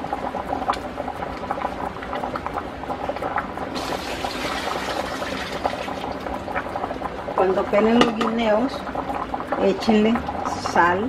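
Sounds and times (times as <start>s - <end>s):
soup boiling with bubbling: 0.0s - 11.0s.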